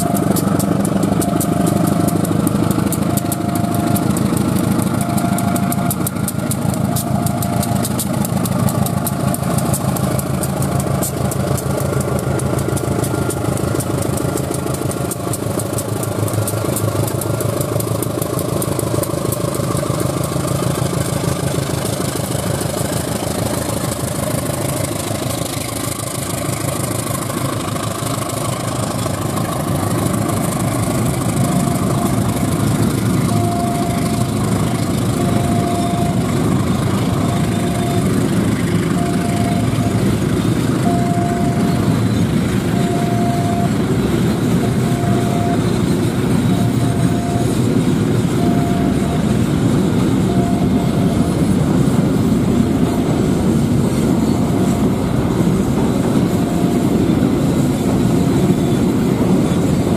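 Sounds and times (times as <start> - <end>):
diesel engine rumble: 0.0 - 59.9
train wheels clicking over rails: 0.0 - 59.9
two-tone crossing alarm: 0.0 - 59.9.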